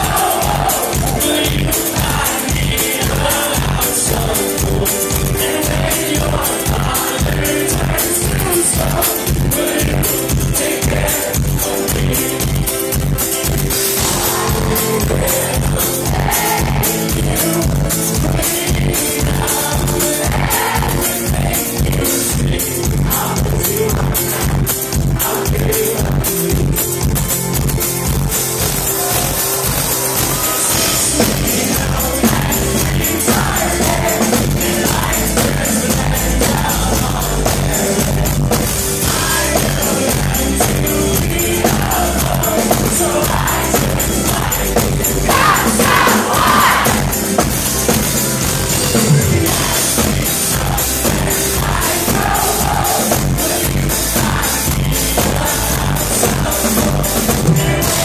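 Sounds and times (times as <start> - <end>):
person singing: 0.0 - 13.0, 14.0 - 27.4, 28.9 - 47.4, 48.9 - 58.0
live band music through speakers: 0.0 - 58.0.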